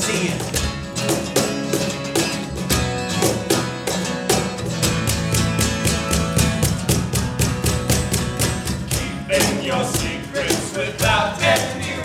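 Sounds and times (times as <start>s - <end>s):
drum beat: 0.0s - 12.0s
strummed guitar: 0.0s - 12.0s.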